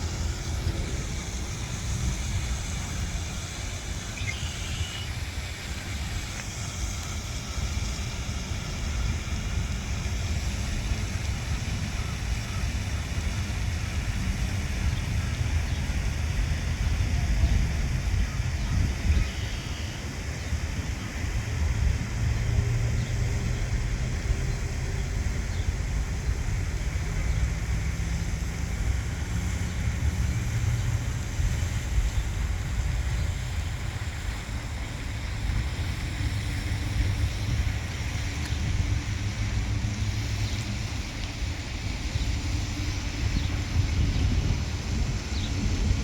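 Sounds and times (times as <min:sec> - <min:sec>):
wind buffeting microphone: 0:00.0 - 0:19.4, 0:20.0 - 0:46.0
low outdoor rumble: 0:00.0 - 0:46.0.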